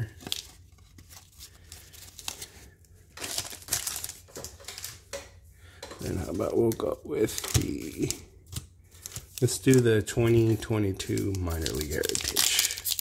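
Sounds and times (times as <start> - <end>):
cards and packaging crinkling: 0.0 - 13.0.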